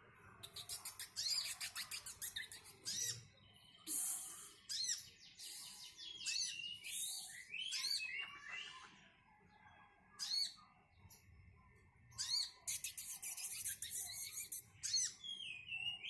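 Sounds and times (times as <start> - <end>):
bird high chirps: 0.3 - 11.2, 12.1 - 16.0.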